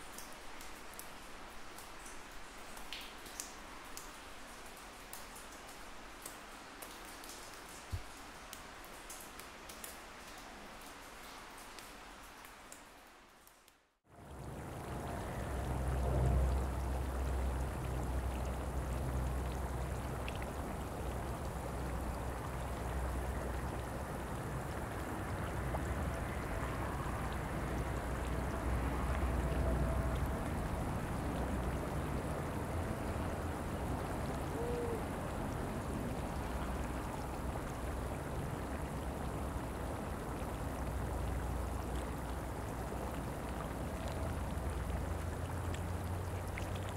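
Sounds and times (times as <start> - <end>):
trickling water: 0.0 - 46.9.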